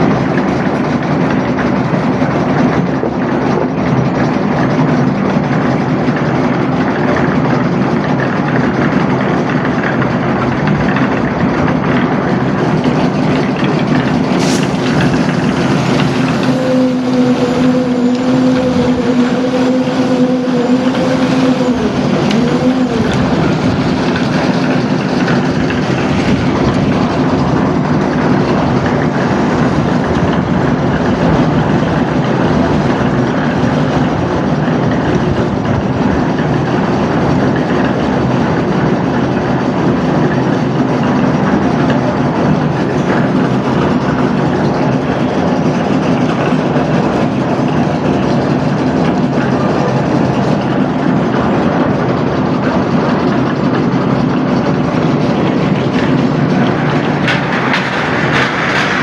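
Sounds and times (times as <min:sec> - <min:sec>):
construction machinery running: 0:00.0 - 0:59.0
wobbling steady whine: 0:00.0 - 0:59.0.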